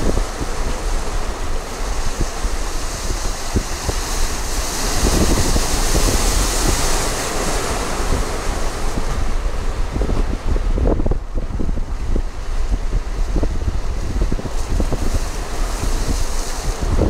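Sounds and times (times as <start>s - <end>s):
surf washing among rocks: 0.0s - 17.0s
wind buffeting microphone: 0.0s - 17.0s.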